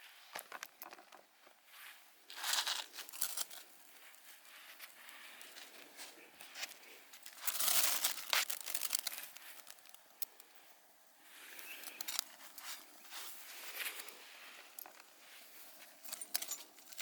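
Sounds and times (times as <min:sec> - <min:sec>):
crinkly material rustling: 0:00.0 - 0:10.7, 0:11.3 - 0:17.0.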